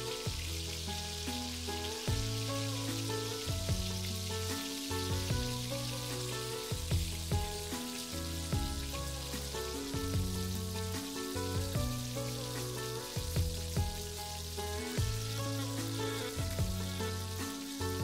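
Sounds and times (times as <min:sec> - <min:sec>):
background music: 0:00.0 - 0:18.0
fries sizzling in hot oil: 0:00.0 - 0:18.0.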